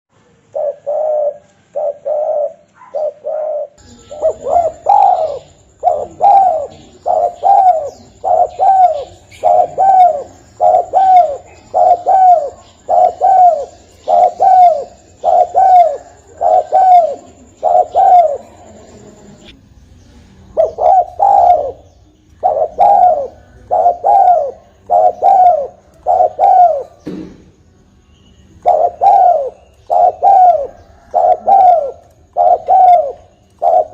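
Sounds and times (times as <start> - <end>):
dove cooing: 0.5 - 19.5, 20.5 - 27.1, 28.6 - 33.9.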